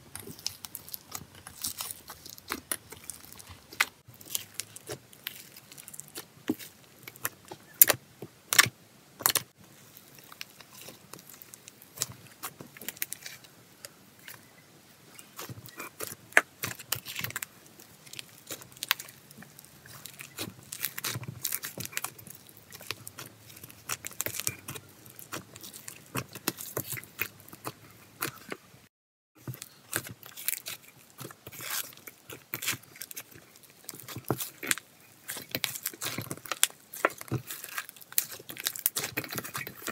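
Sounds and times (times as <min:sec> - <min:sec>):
slime crackling and squelching: 0:00.1 - 0:28.6, 0:29.4 - 0:39.9.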